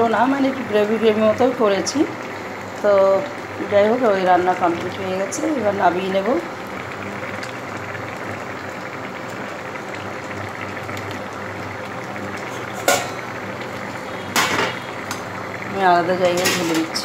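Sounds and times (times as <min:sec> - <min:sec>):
curry bubbling in a pan: 0:00.0 - 0:17.0.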